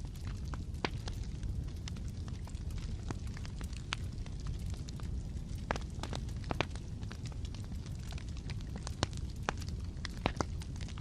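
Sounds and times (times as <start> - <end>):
fire crackling and popping: 0.0 - 11.0
wood fire rumbling: 0.0 - 11.0.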